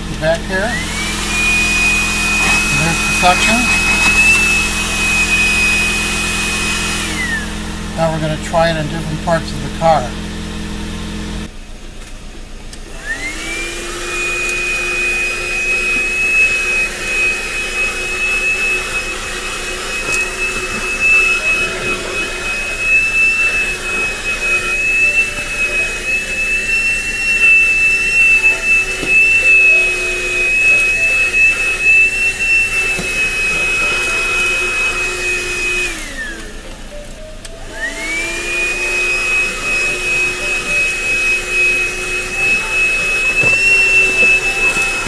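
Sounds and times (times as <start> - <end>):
vacuum nozzle on carpet mat: 0.0 - 11.4, 12.8 - 36.6, 37.7 - 45.0
handheld vacuum motor whining: 0.0 - 45.0.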